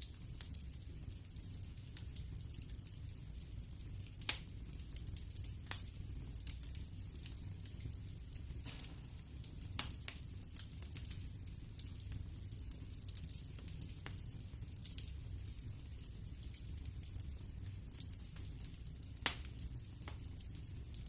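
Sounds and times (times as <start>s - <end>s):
fire crackling and popping: 0.0s - 21.0s
rumble of flames: 0.0s - 21.0s.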